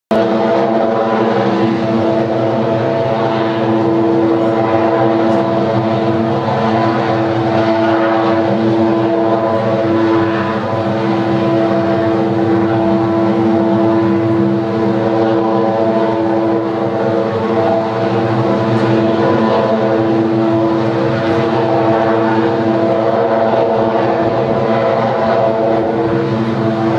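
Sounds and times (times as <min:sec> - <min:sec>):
power plant mechanical drone: 0:00.1 - 0:26.9.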